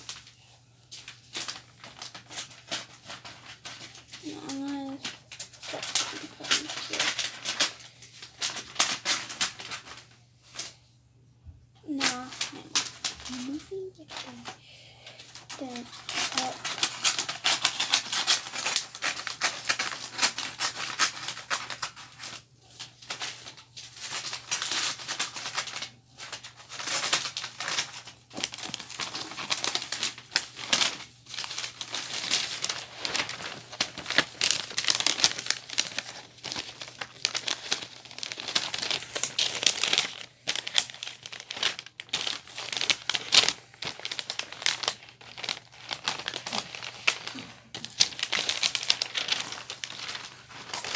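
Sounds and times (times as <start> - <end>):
wrapping paper crinkling: 0.0 - 10.9, 11.8 - 50.9.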